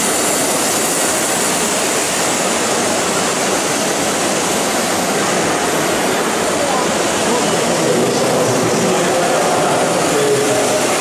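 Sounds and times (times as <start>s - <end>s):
busy exhibition hall din: 0.0s - 11.0s.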